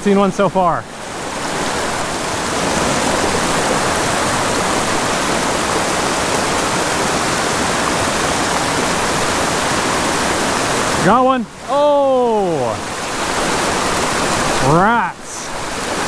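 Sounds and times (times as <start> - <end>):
creek water rushing over rocks: 0.0 - 16.0.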